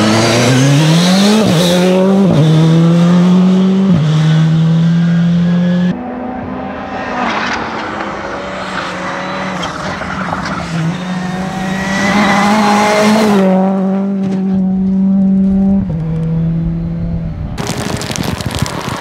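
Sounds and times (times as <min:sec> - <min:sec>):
rally car engine passing: 0:00.0 - 0:17.4.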